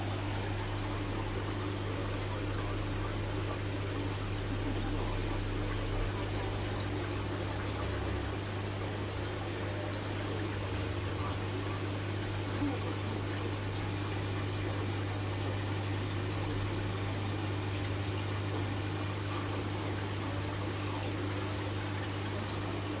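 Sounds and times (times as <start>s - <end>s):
aquarium water trickling: 0.0s - 23.0s.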